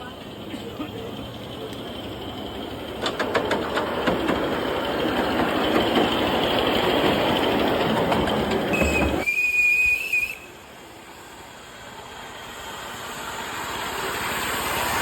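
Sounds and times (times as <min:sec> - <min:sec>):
steam locomotive hissing: 0:00.0 - 0:15.0
sharp steam beats: 0:02.1 - 0:15.0.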